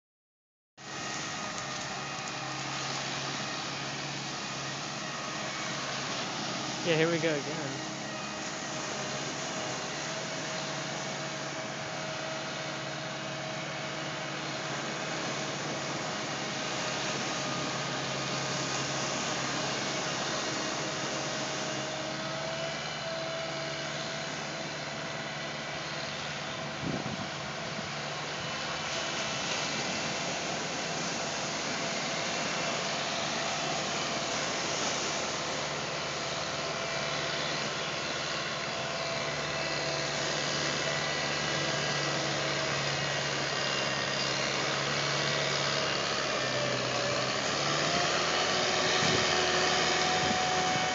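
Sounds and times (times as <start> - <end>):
tractor engine humming and whining: 0.8 - 50.9
waves breaking: 0.9 - 22.8, 26.2 - 50.9.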